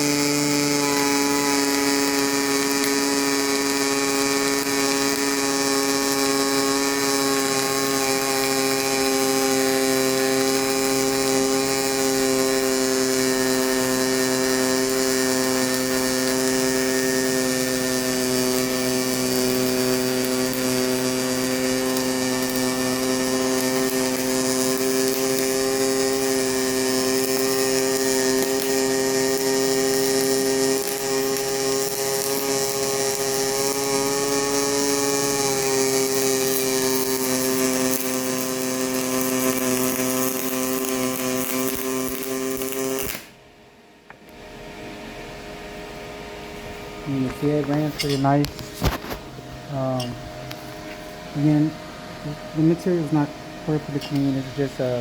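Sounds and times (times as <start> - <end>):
welding arc buzzing: 0.0 - 55.0.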